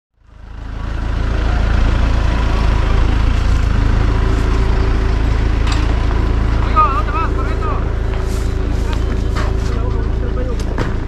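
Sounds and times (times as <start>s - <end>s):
engine running at low revs: 0.2s - 11.0s.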